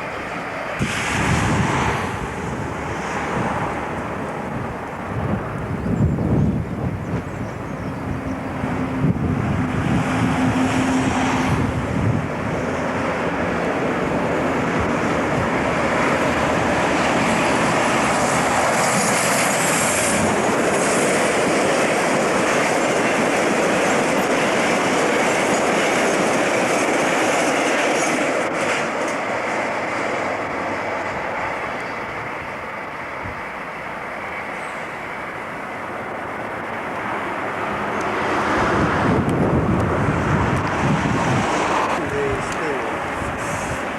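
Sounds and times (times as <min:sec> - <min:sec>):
train passing on rails: 0:00.0 - 0:43.9.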